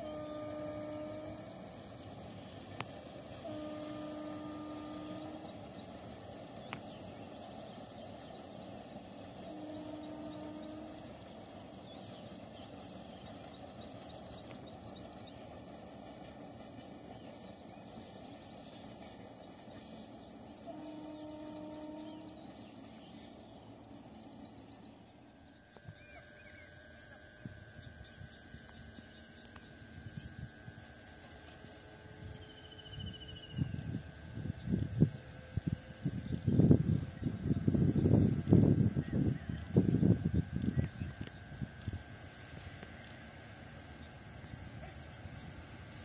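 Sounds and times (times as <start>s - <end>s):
steady outdoor hiss: 0.0s - 46.0s.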